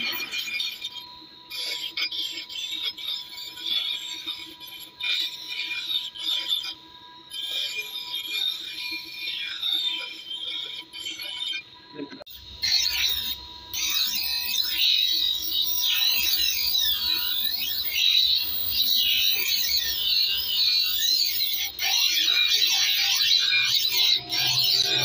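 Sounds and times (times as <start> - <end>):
bench grinder squealing on steel: 0.0 - 11.6, 12.5 - 25.0.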